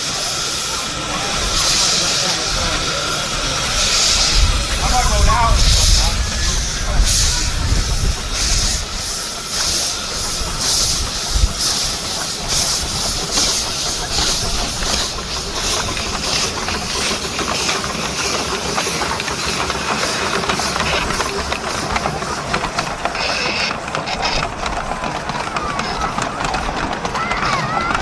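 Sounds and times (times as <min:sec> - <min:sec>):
steam locomotive hissing and chuffing: 0:00.0 - 0:28.0
train rattling and clicking: 0:00.0 - 0:28.0.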